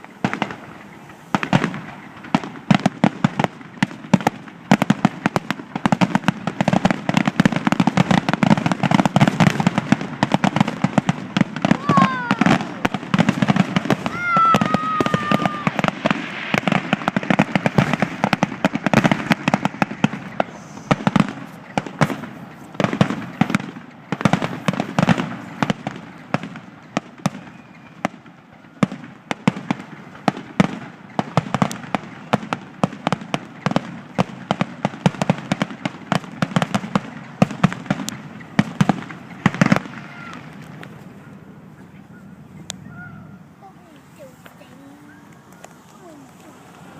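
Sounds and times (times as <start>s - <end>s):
fireworks cracking and banging: 0.0s - 46.9s.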